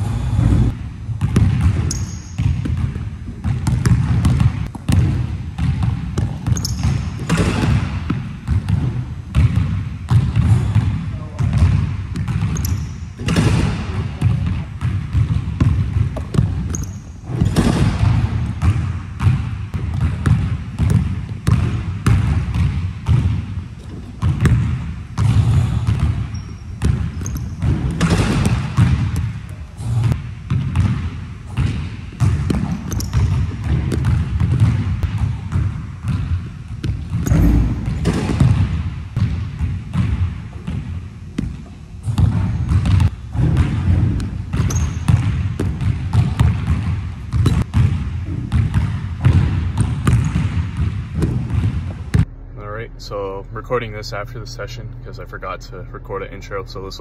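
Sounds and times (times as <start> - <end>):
basketball bouncing on gym floor: 0.0 - 52.3.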